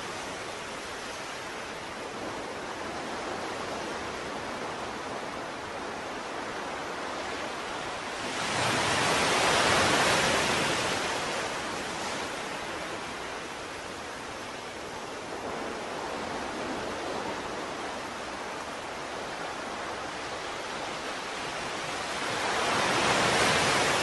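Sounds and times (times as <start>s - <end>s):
ocean surf rushing: 0.0s - 24.0s.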